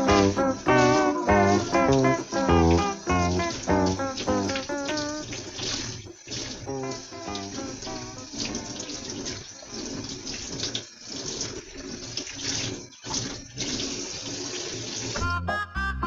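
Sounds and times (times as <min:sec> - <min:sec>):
tap water running into sink: 0:00.0 - 0:15.2.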